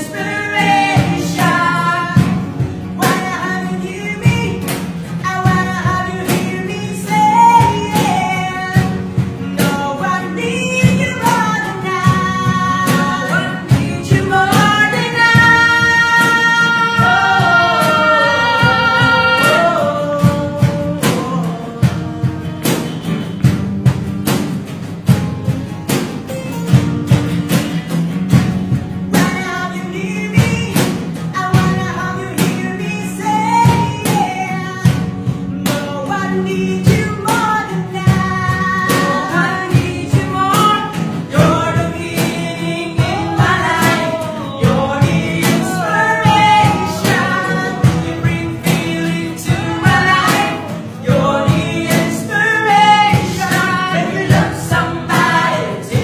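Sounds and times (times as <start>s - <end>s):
boys singing: 0.0s - 4.8s, 5.4s - 23.4s, 29.2s - 56.0s
rhythmic accompaniment: 0.0s - 56.0s.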